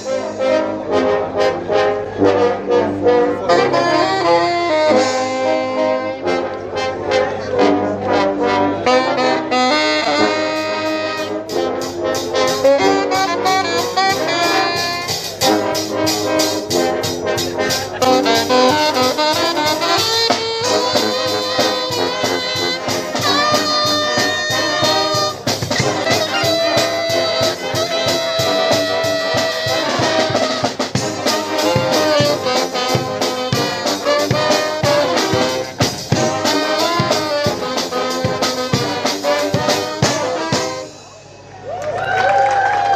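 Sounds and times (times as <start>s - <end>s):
brass band playing: 0.0s - 41.6s
drums keeping a steady beat: 0.0s - 41.6s.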